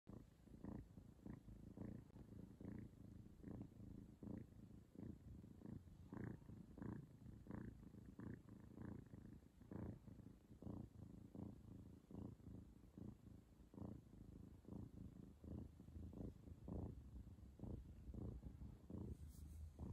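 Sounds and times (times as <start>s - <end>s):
kitten purring: 0.1s - 19.9s.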